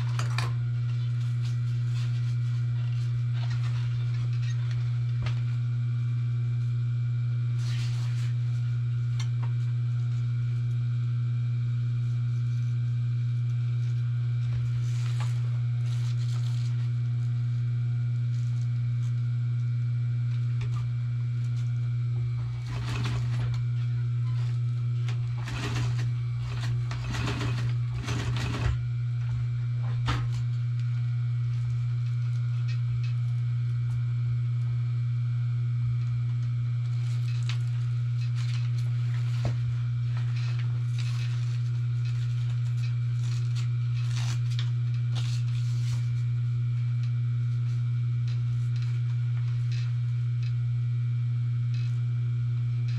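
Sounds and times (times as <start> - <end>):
electric motor hum: 0.0 - 52.9.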